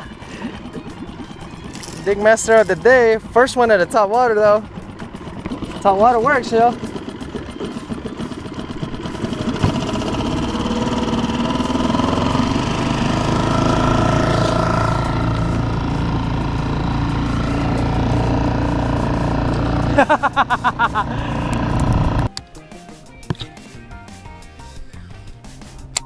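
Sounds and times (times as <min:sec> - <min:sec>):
boat motor droning: 0:00.0 - 0:22.4.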